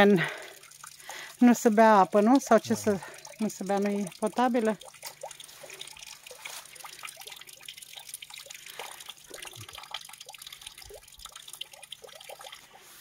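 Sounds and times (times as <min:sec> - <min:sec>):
faint steady water splash: 0:00.0 - 0:13.0
water trickling and dripping: 0:00.0 - 0:13.0.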